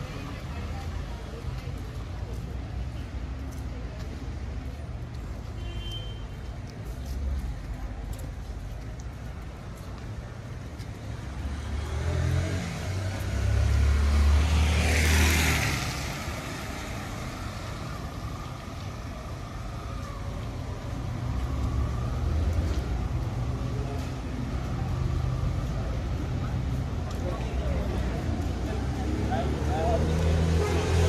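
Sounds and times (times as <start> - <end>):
vehicle engine rumble: 0.0 - 31.0.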